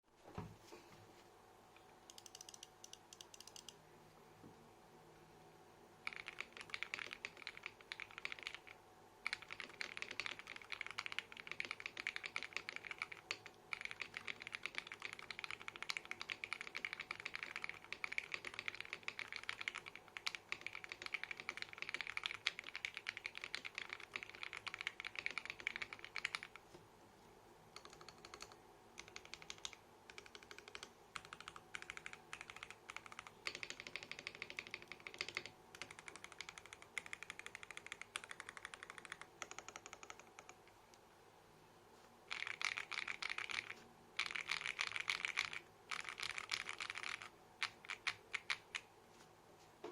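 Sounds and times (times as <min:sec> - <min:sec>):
mechanical keyboard typing: 0:02.1 - 0:03.8, 0:06.0 - 0:26.6, 0:27.8 - 0:40.7, 0:42.3 - 0:48.9.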